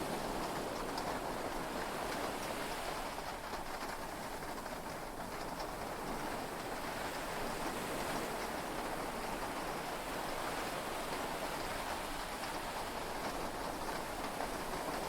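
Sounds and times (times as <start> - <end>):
heavy rain heard from inside: 0.0 - 15.0.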